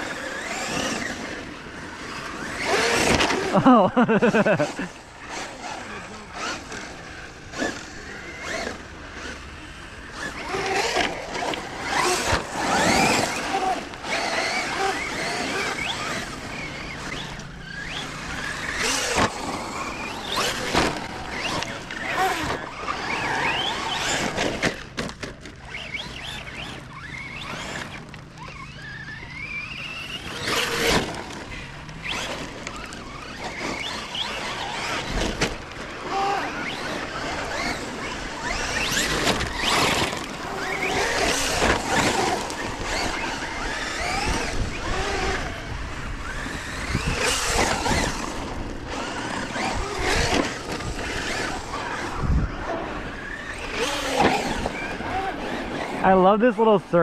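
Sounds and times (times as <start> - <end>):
electric motor whine: 0.0 - 57.0
tyres scrabbling on gravel: 10.2 - 56.2.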